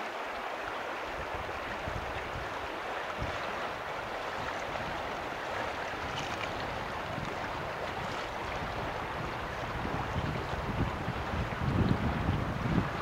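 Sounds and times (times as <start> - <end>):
river water rushing over riffle: 0.0 - 13.0
wind rumble on microphone: 1.1 - 13.0.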